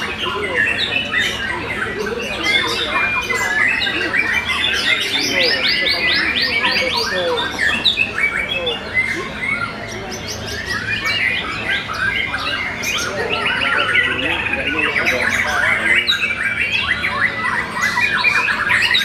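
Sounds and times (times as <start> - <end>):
birds singing in chorus: 0.0 - 19.0.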